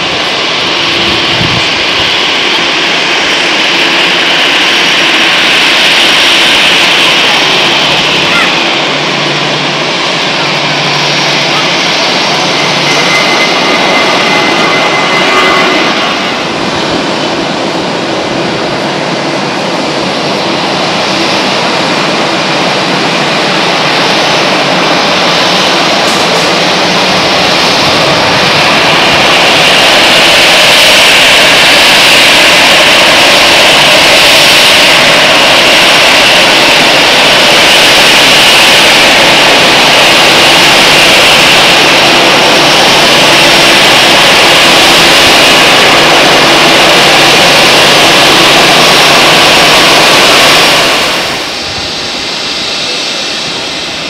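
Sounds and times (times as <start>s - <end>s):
high engine whine: 0.0s - 54.0s
jet engines roaring: 0.0s - 54.0s.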